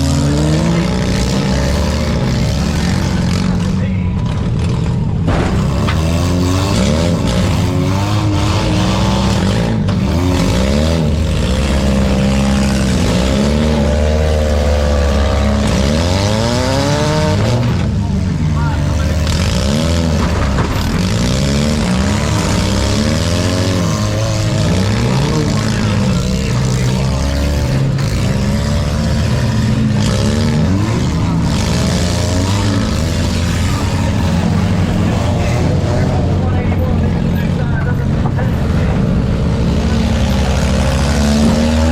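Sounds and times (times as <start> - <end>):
car engines revving hard: 0.0 - 41.9
constant loud noise: 0.0 - 41.9.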